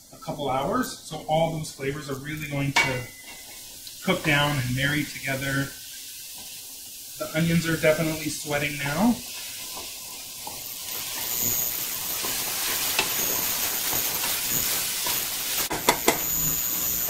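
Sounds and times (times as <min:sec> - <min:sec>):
onions sizzling in grease: 0:00.0 - 0:17.0.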